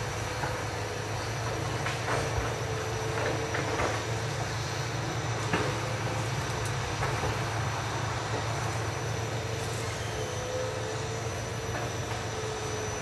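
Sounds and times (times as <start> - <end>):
excavator diesel engine drone: 0.0 - 13.0
faint steady whine: 0.0 - 13.0.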